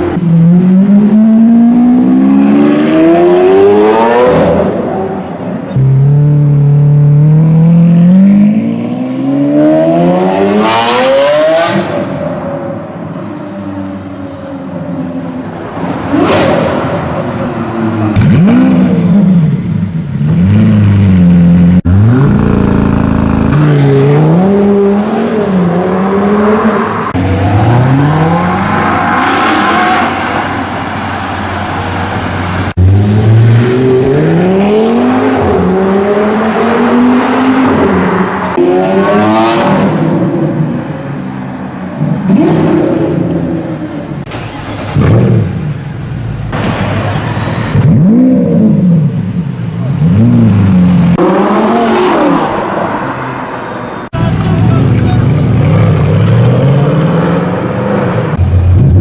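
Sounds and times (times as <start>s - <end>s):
sports car engines revving: 0.0s - 45.9s, 47.3s - 59.0s.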